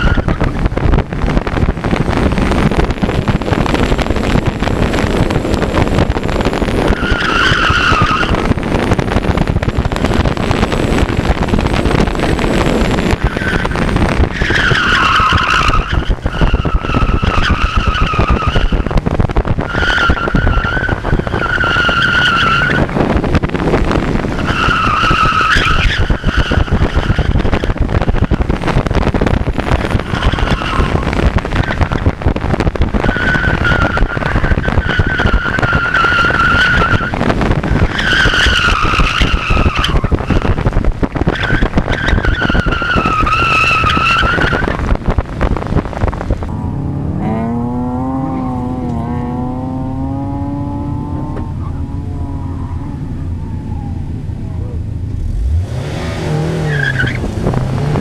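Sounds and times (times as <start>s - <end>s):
tires squealing: 0.0s - 2.8s, 3.6s - 58.0s
car engine at full throttle: 0.0s - 58.0s
car engine idling and revving: 0.0s - 58.0s
wind noise: 0.0s - 58.0s.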